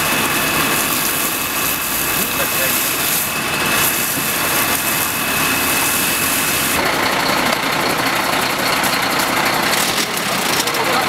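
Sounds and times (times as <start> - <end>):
fire engine idling: 0.0 - 11.0
fire hose spraying water: 0.0 - 11.0.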